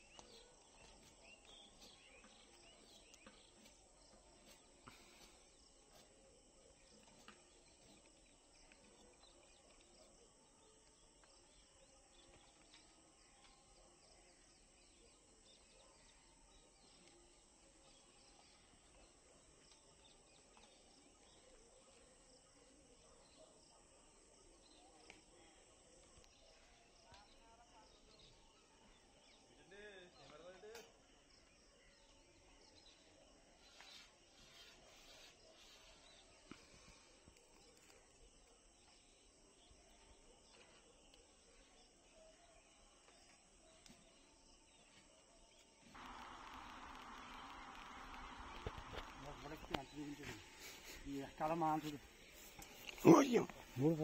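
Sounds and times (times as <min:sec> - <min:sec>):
insects: 0:00.0 - 0:54.0
small birds chirping: 0:00.0 - 0:54.0.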